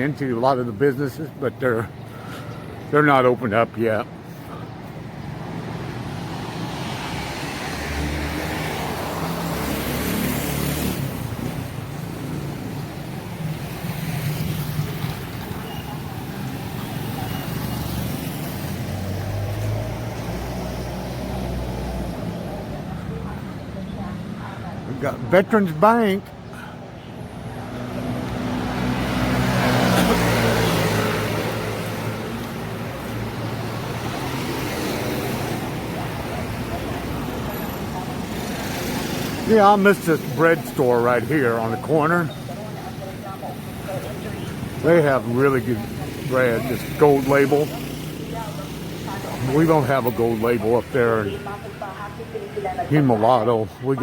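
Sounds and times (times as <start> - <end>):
street traffic noise: 0.0 - 54.0.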